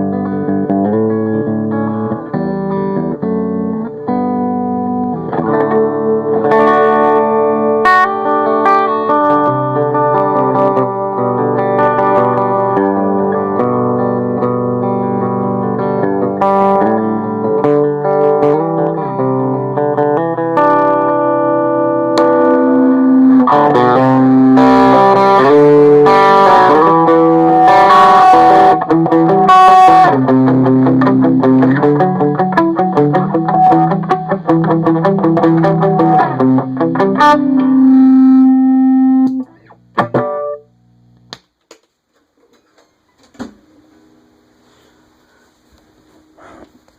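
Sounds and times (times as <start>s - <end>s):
electric guitar chords and picking: 0.0s - 41.4s.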